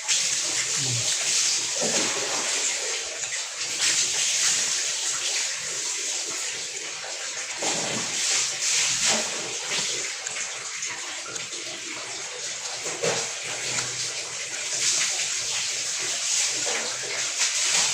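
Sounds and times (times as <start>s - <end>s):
running water splashing: 0.0s - 17.9s.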